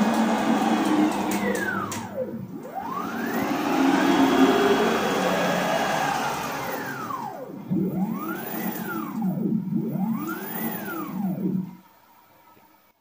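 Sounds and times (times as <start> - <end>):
stepper motor whine: 0.0 - 12.9.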